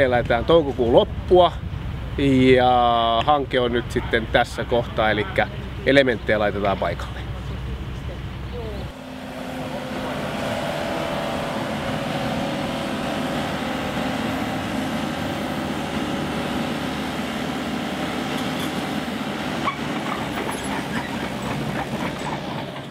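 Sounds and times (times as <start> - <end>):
diesel engines running: 0.0 - 22.9.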